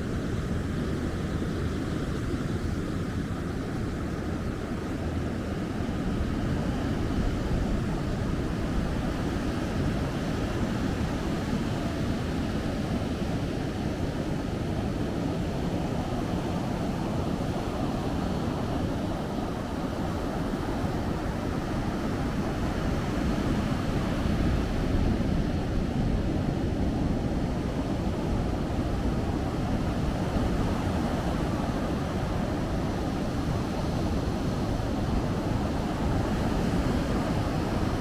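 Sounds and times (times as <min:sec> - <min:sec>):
ocean surf washing on beach: 0:06.1 - 0:38.0.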